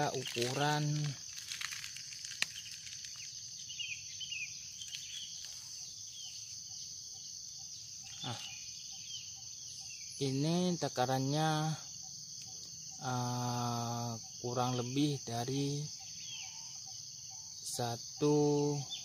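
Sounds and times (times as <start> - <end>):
insects droning: 0.0 - 19.0
faint bird chirps: 2.2 - 10.8, 11.7 - 19.0.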